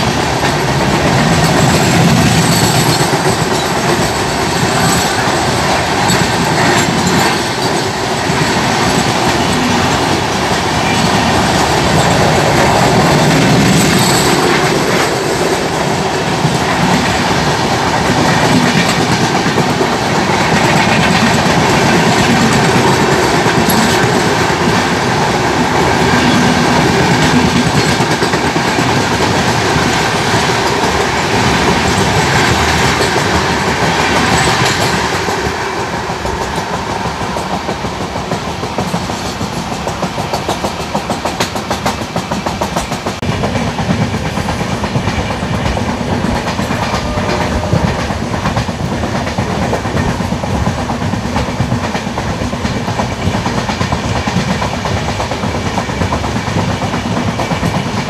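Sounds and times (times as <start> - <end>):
train wheels rumbling on rails: 0.0 - 58.0
wheels clacking over rail joints: 0.0 - 58.0.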